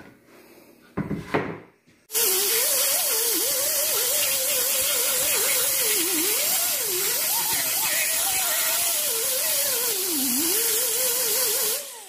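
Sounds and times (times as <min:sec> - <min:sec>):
air die grinder grinding bark: 0:02.1 - 0:12.0.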